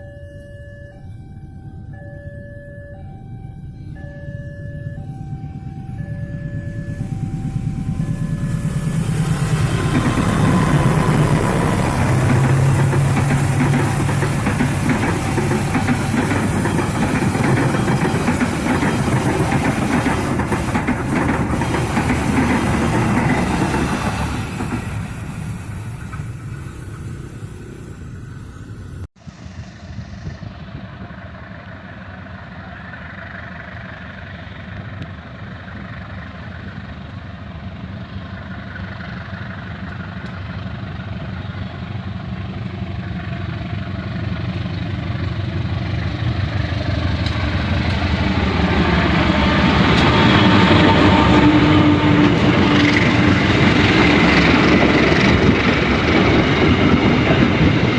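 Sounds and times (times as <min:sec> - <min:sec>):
locomotive engine drone: 0:00.0 - 0:57.9
rail and wheel noise: 0:00.0 - 0:57.9.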